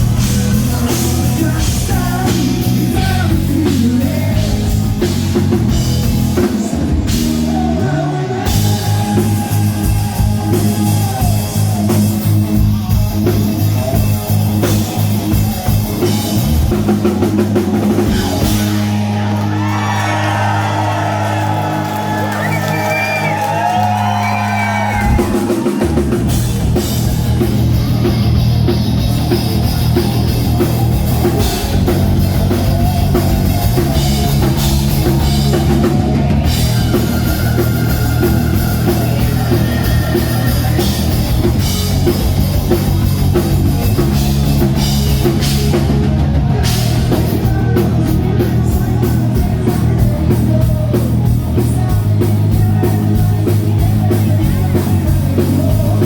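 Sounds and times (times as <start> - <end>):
hard rock band playing: 0.0 - 56.0.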